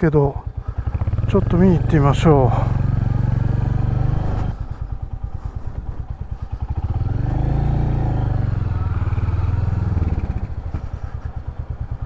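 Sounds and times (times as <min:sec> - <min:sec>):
single-cylinder motorcycle engine: 0:00.0 - 0:12.0.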